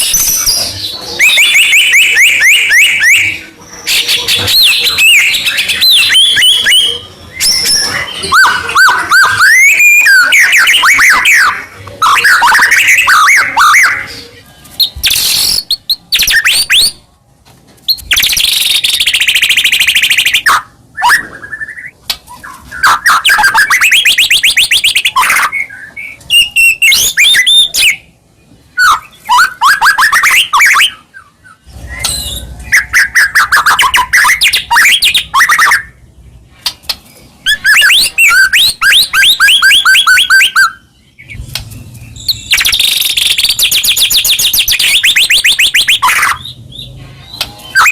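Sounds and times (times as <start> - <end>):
songbird singing trills and whistles: 0.0 - 17.0, 17.9 - 28.1, 28.7 - 36.0, 36.6 - 47.9.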